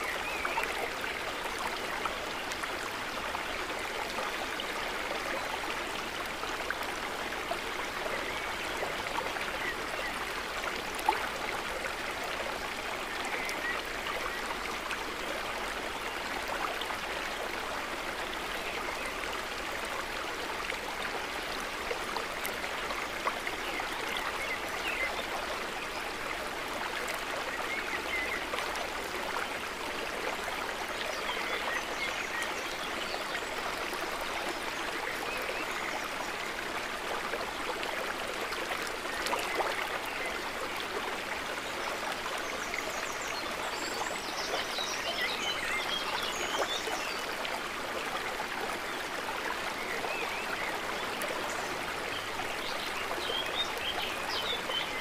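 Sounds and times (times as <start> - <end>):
water trickling and gurgling: 0.0 - 55.0.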